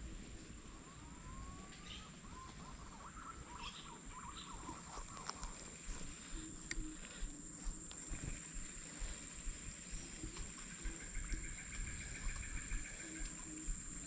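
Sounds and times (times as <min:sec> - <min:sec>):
warbling bird calls: 0:00.0 - 0:14.0.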